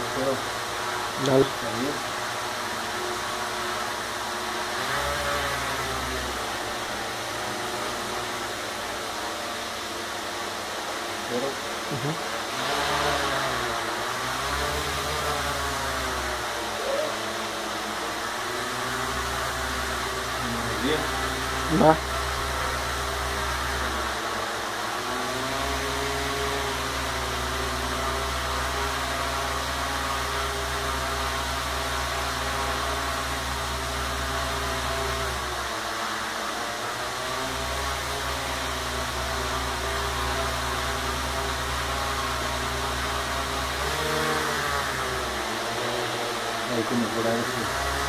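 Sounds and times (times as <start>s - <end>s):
drone motors and propellers whirring: 0.0s - 48.0s.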